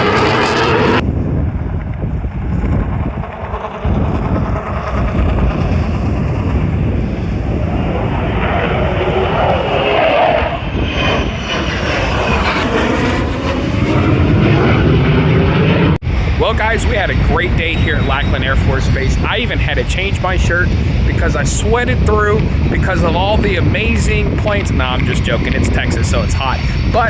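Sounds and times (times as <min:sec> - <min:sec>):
military aircraft engines: 0:00.0 - 0:27.0.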